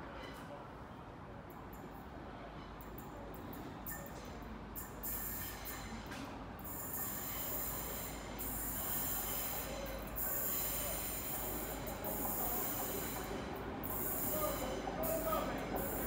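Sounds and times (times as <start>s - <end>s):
train approaching: 2.8s - 16.0s.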